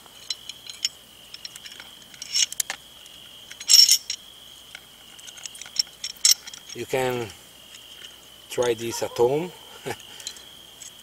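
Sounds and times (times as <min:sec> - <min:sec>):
insect trilling: 0:00.2 - 0:11.0.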